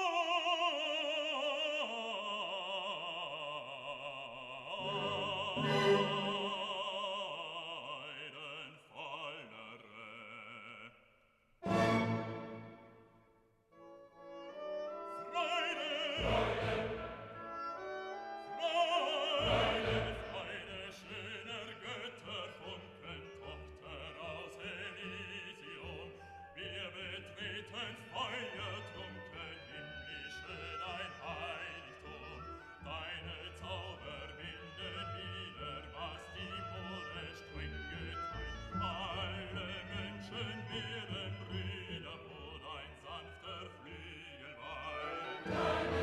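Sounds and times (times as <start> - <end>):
classical orchestra: 0.0 - 10.2, 11.6 - 46.0
operatic singing: 0.0 - 13.1, 14.8 - 46.0.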